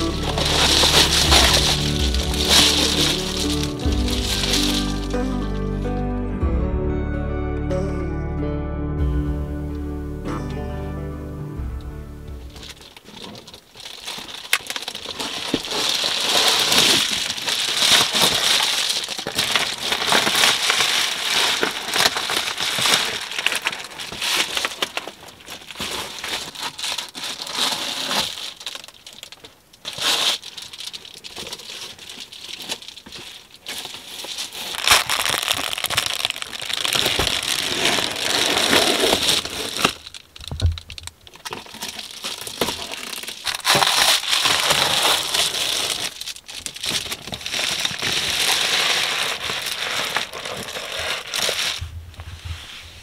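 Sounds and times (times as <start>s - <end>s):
bubble foil crinkling: 0.0s - 5.9s, 12.3s - 53.0s.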